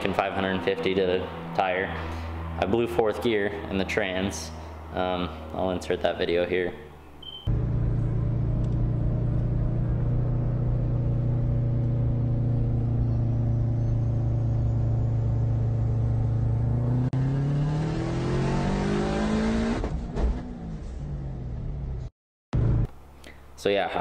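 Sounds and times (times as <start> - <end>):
car engine revving: 0.0 - 6.6, 7.5 - 22.0.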